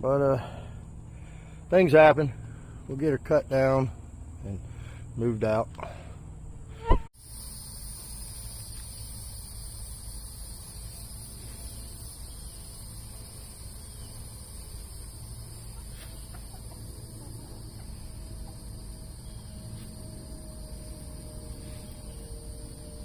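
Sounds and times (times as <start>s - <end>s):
insect chorus drone: 0.0s - 23.0s.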